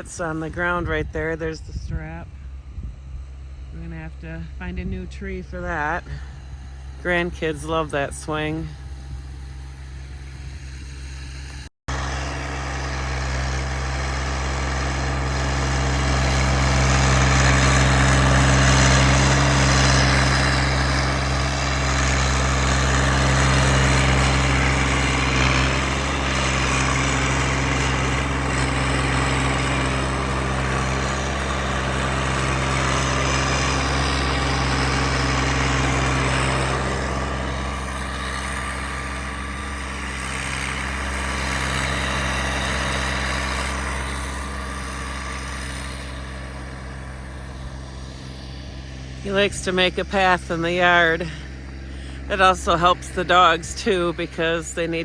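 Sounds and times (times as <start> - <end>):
snow clearing machine engine: 0.0 - 55.0.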